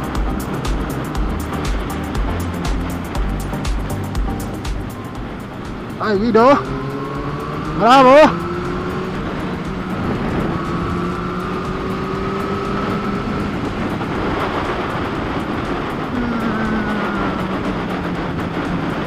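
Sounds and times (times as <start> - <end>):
motorcycle engine running: 0.0 - 19.0
wind rushing over camera: 0.2 - 19.0.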